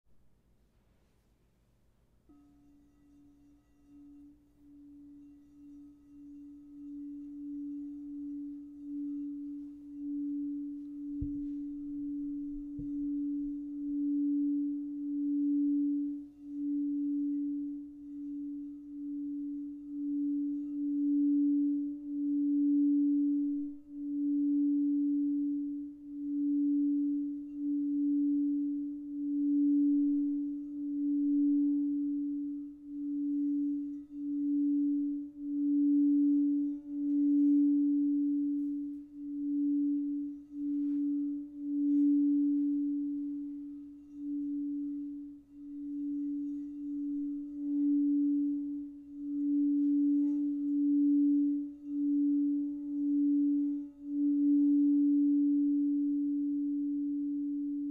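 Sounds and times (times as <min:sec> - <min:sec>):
crystal singing bowl tone: 0:00.4 - 0:57.9.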